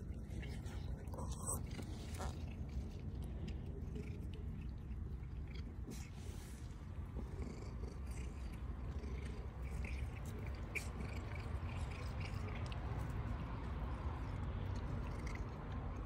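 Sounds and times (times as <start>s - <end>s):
cat chewing grass: 0.0s - 16.0s
cat purring: 0.0s - 16.0s.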